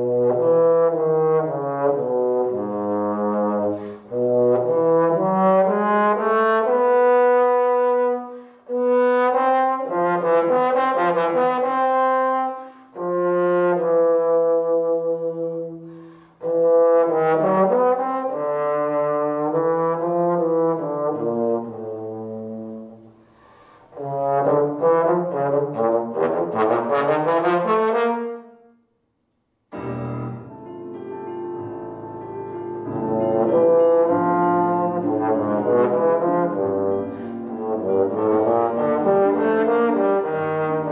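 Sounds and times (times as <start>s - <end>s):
trombone playing melodic phrases: 0.0s - 23.1s, 23.9s - 28.6s, 29.8s - 40.9s.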